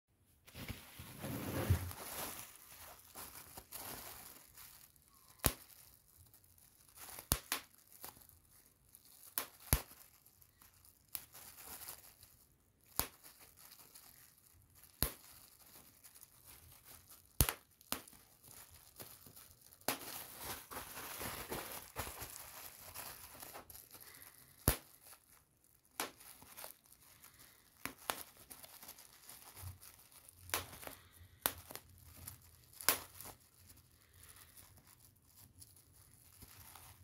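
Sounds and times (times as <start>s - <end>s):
bubble wrap crinkling: 0.2s - 37.0s
bubble wrap popping: 0.3s - 37.0s.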